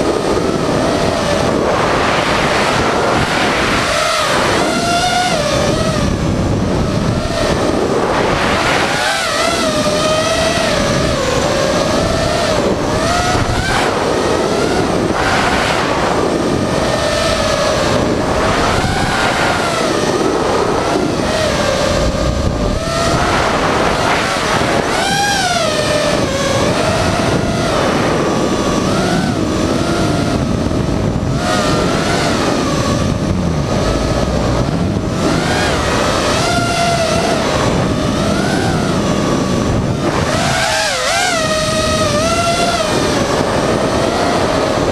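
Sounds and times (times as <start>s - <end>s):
quadcopter motors whining: 0.0s - 44.9s.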